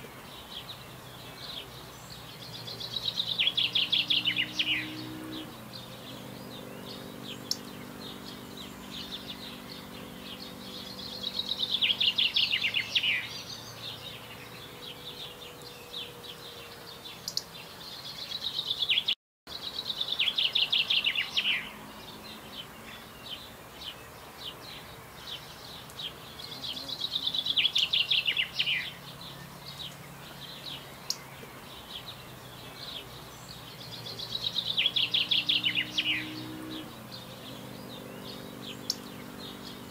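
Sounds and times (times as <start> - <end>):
soft bird calls: 0.0 - 39.9
songbird trilled phrase: 1.3 - 39.9.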